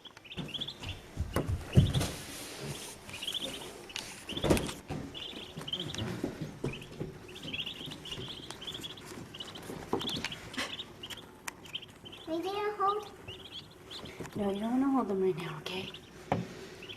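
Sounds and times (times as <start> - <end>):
ducklings peeping: 0.0 - 16.9.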